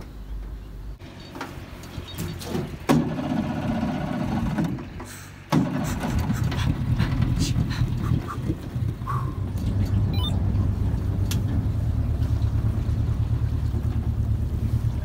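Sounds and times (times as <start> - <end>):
outboard motor running: 3.0 - 15.0.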